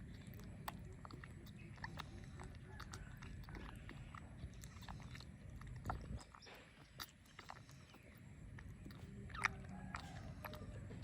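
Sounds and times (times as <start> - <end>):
baby monkey smacking while feeding: 0.0 - 11.0
low background rumble: 0.0 - 11.0.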